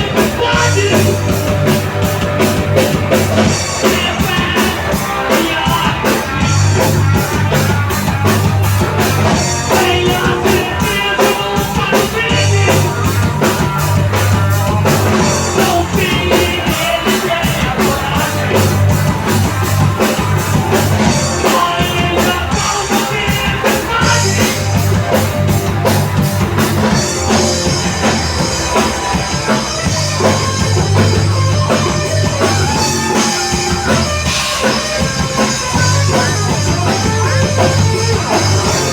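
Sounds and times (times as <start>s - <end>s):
drum kit beat: 0.0s - 38.9s
rock band playing live: 0.0s - 38.9s.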